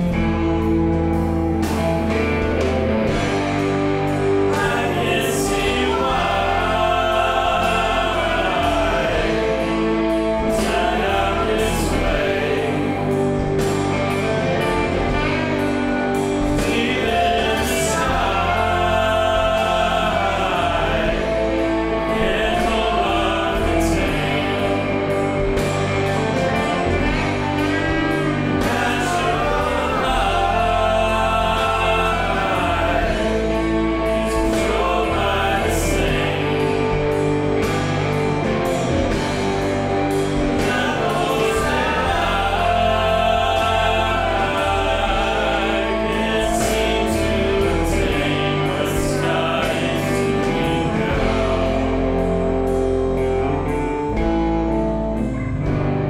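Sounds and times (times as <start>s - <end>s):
music with singing voices: 0.0s - 56.0s
steady low bass: 0.0s - 56.0s.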